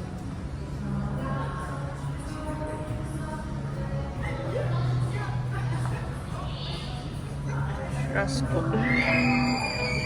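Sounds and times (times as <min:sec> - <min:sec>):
background music low bass: 0:00.0 - 0:10.0.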